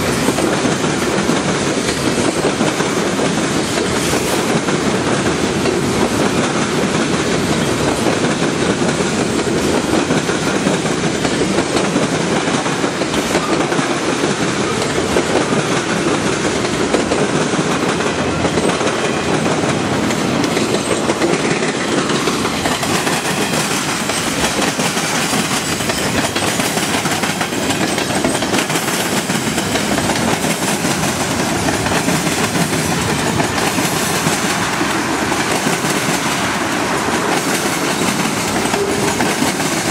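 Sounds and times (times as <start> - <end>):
train wheels rolling on track: 0.0 - 39.9.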